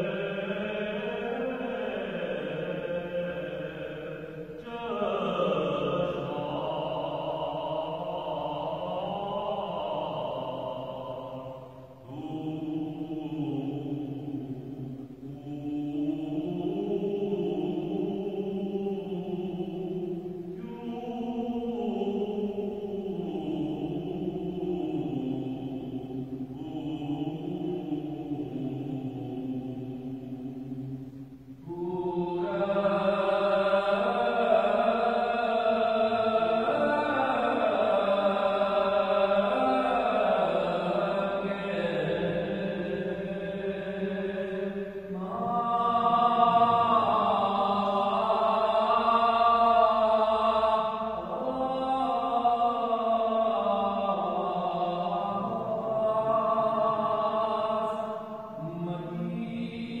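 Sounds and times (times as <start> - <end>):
male voices chanting a hymn: 0.0 - 60.0.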